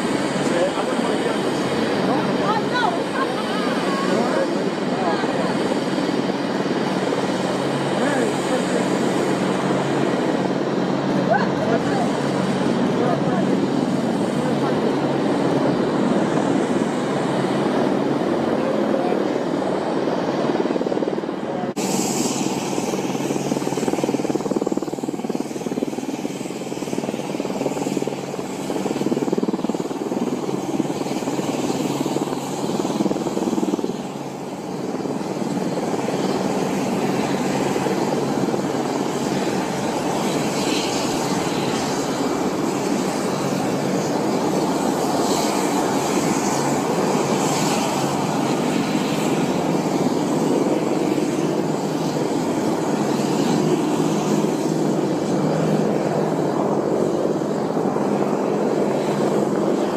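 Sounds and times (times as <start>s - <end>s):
helicopter rotor chop: 0.0s - 59.9s.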